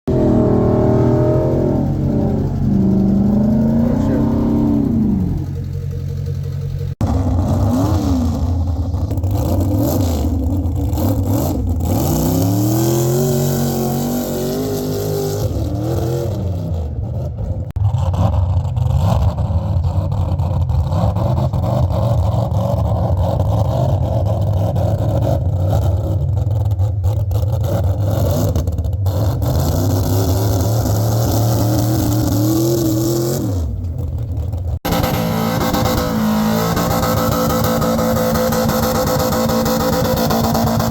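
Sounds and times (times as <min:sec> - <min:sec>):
pickup truck engine revving: 0:00.0 - 0:40.9.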